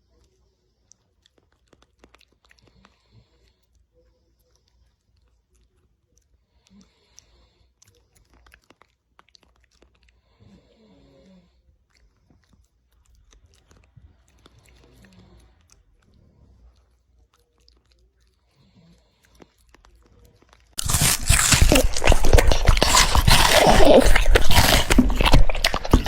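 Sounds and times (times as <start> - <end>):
dog chewing and crunching food: 0.0 - 26.0
teeth clicking on food: 0.0 - 26.0.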